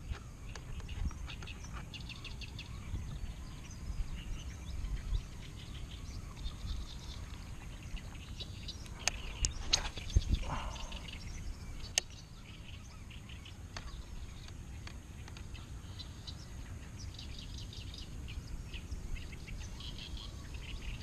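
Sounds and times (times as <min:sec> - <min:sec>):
birds chirping and calling: 0:00.0 - 0:21.0
steady low rumble: 0:00.0 - 0:21.0.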